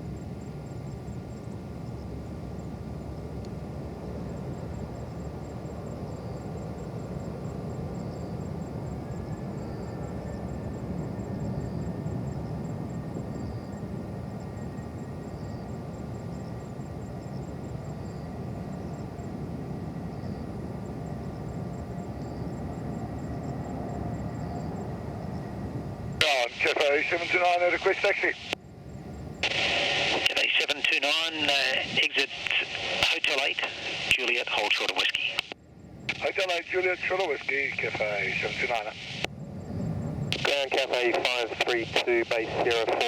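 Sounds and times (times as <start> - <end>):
distant jet engines rumbling: 0.1 - 43.0.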